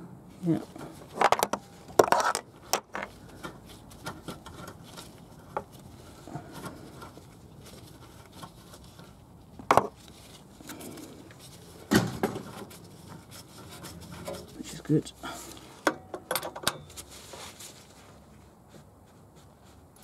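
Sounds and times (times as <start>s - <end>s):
soft rustles and scrapes: 0.3s - 15.8s, 16.8s - 20.0s.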